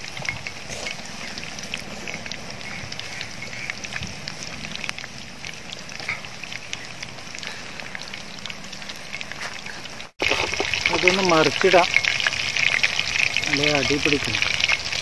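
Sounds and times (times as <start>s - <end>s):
chicken deep-frying in hot oil: 0.0s - 15.0s.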